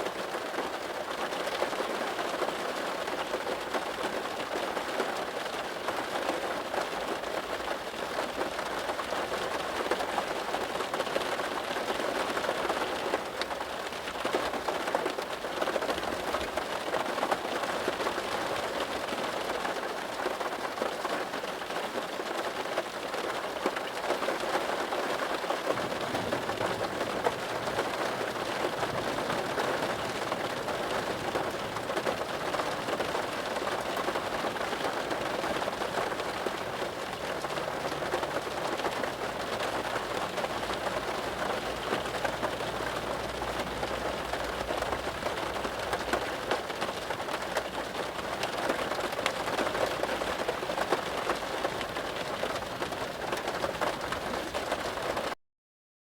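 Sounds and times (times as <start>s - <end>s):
rain falling: 0.0s - 55.4s.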